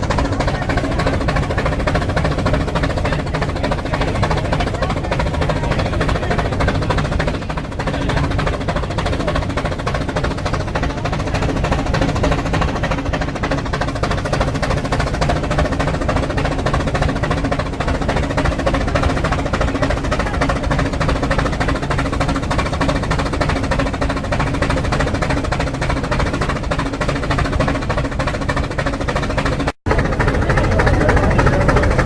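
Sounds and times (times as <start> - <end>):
steam locomotive puffing: 0.0 - 32.0.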